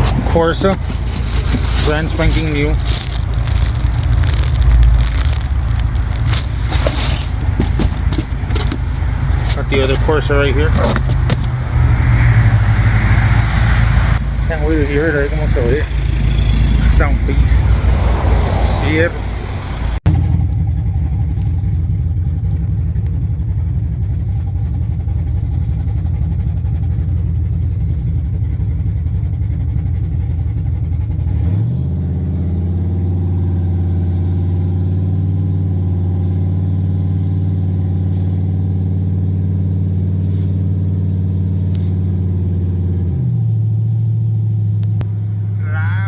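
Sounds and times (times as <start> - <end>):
pickup truck engine running: 0.0 - 46.0.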